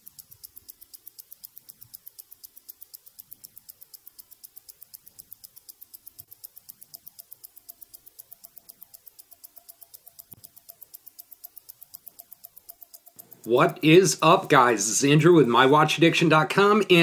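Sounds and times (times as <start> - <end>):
watch ticking: 0.0 - 17.0.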